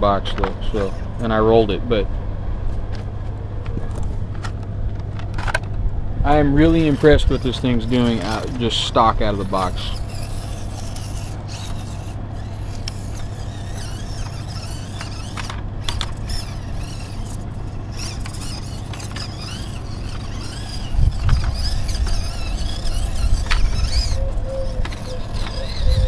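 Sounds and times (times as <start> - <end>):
electric motor whirring: 2.7 - 26.0.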